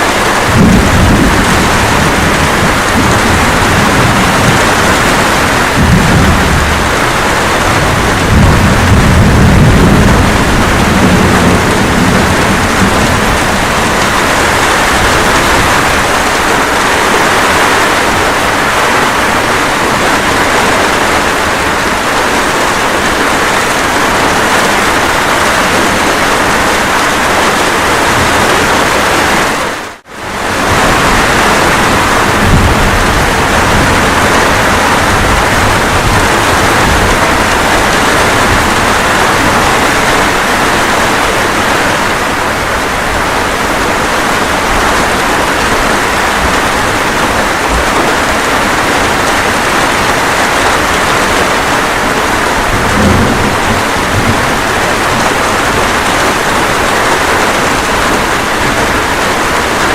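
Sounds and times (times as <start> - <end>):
rolling thunder: 0.0 - 29.4, 30.2 - 59.9
steady rain: 0.0 - 59.9.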